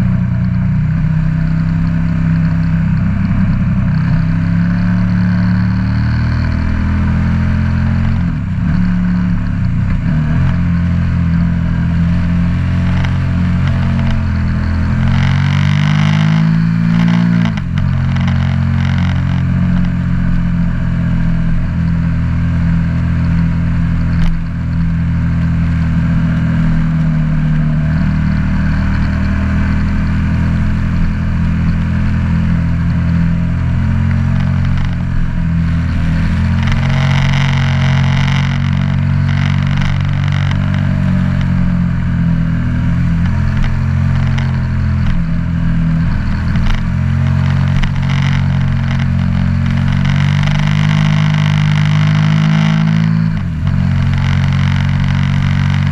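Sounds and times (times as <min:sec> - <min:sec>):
motorcycle engine running under load: 0:00.0 - 0:55.9.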